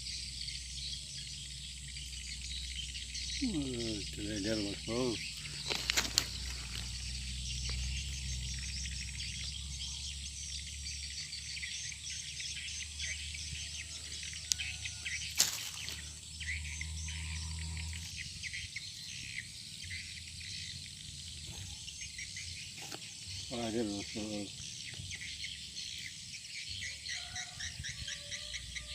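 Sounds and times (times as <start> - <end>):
birds chirping: 0.0 - 28.9
insects chirring: 0.0 - 28.9.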